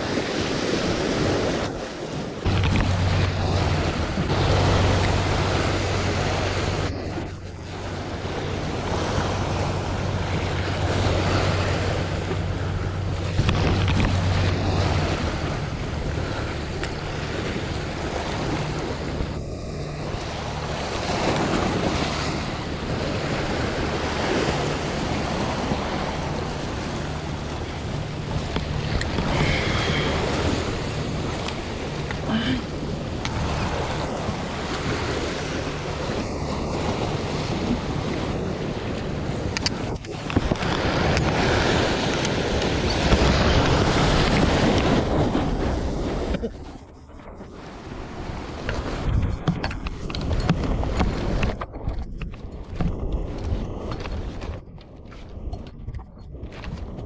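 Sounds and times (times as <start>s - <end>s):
sea waves washing: 0.0s - 57.0s
wind buffeting microphone: 0.0s - 57.0s
low steady hum: 2.4s - 48.8s.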